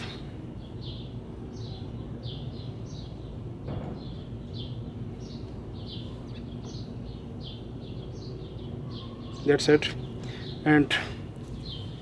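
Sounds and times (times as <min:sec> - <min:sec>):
bird chirping: 0:00.0 - 0:12.0
steady low hum: 0:00.0 - 0:12.0.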